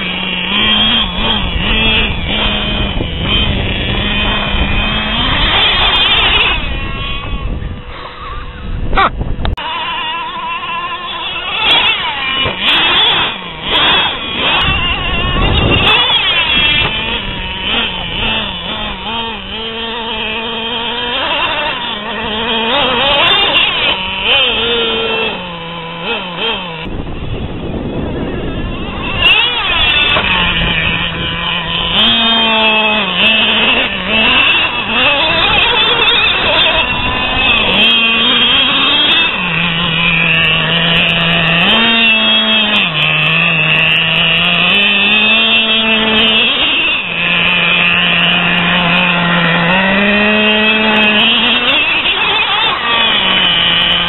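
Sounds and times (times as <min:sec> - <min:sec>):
small nitro engine revving: 0:00.0 - 0:54.0.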